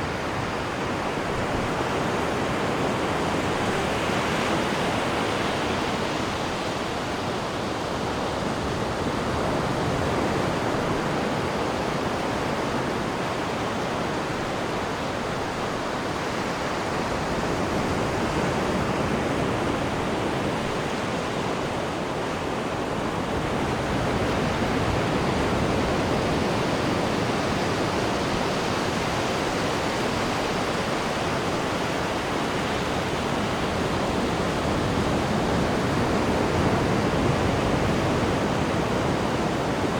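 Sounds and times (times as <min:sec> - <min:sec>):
water churning in ship's wake: 0:00.0 - 0:39.9.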